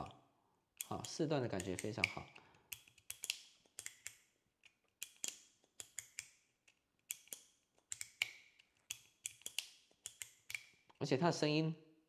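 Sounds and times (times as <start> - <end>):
plastic slider toy clicking: 0.8 - 10.7.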